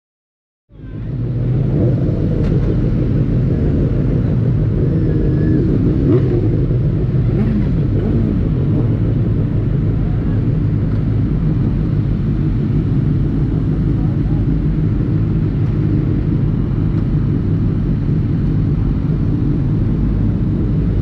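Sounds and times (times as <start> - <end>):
motorcycle engine running steadily: 0.7 - 21.0.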